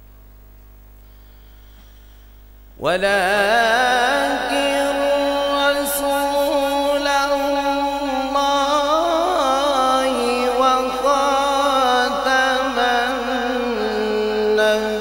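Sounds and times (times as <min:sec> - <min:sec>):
man chanting into microphone: 0:02.8 - 0:15.0.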